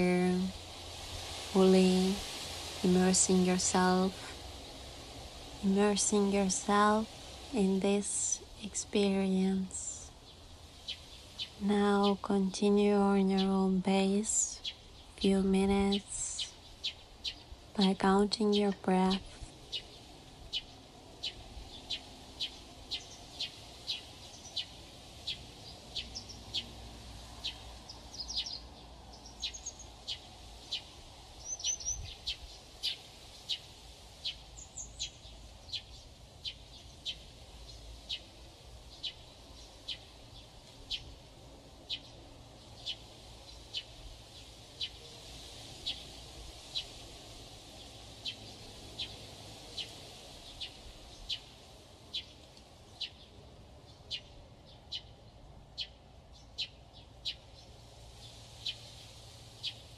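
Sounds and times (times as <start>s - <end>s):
faint low background noise: 0.0s - 59.9s.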